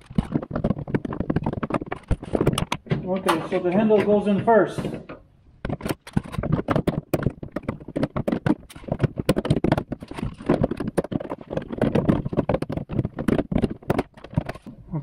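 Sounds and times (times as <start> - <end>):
plastic and metal parts clicking: 0.0 - 14.7.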